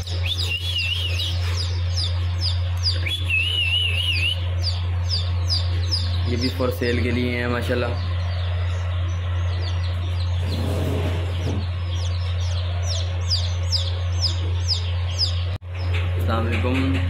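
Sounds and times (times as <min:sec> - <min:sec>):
chicks peeping: 0:00.0 - 0:17.0
steady low hum: 0:00.0 - 0:17.0.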